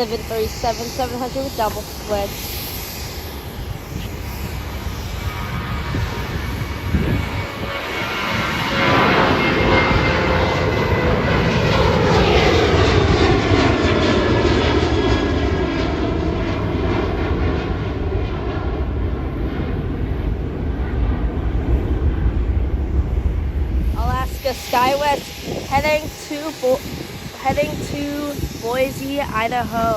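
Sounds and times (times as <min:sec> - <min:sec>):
jet engines at takeoff: 0:00.0 - 0:29.9.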